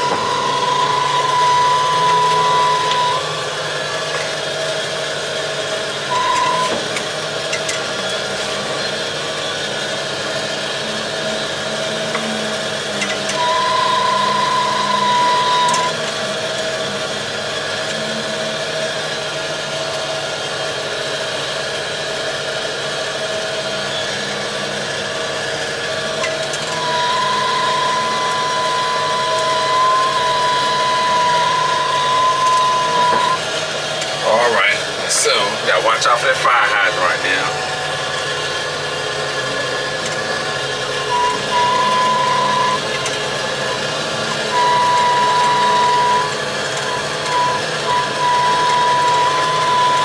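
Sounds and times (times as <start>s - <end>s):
diesel engine running: 0.0s - 50.0s
steady high whine: 0.0s - 50.0s.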